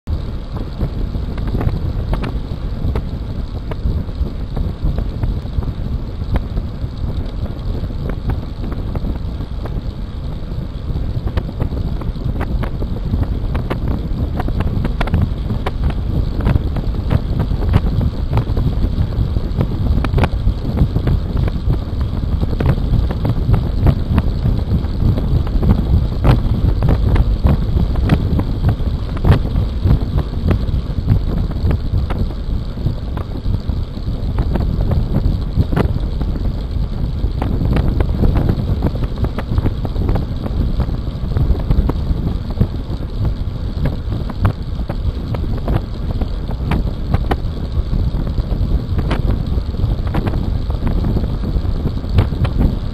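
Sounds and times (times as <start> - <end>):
road noise: 0.0 - 52.9
wind buffeting microphone: 0.1 - 52.9.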